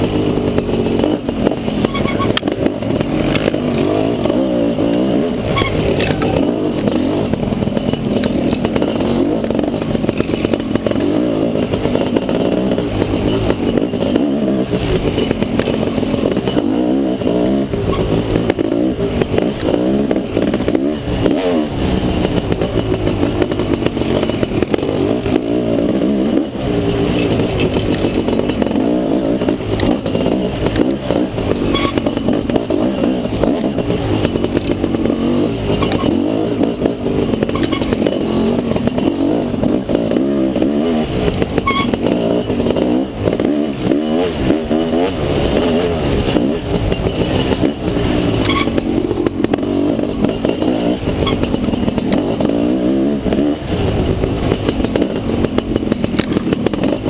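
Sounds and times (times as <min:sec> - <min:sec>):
bike rattling over rough ground: 0:00.0 - 0:57.0
dirt bike engine revving: 0:00.0 - 0:57.0.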